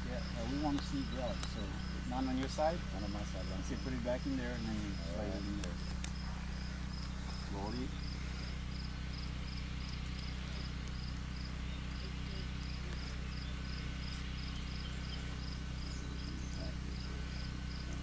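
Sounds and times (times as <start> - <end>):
honeybees humming: 0.0 - 18.0
insect chirping: 0.0 - 18.0.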